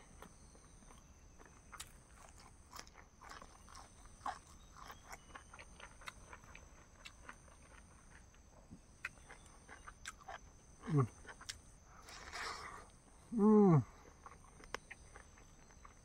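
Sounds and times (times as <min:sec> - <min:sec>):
chewing and mouth sounds: 0:00.1 - 0:13.0, 0:14.0 - 0:16.0.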